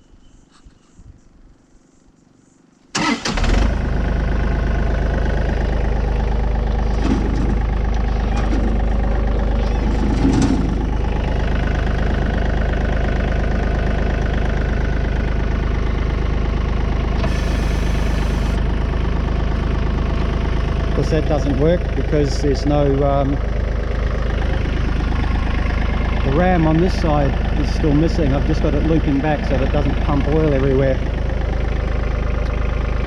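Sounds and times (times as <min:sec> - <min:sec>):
tractor engine starting and idling: 0:02.9 - 0:33.0.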